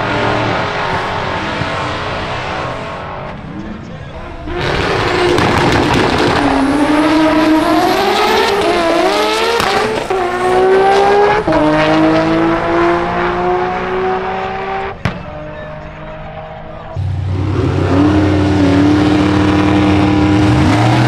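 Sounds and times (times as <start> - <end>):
drag car engine accelerating: 0.0 - 21.0.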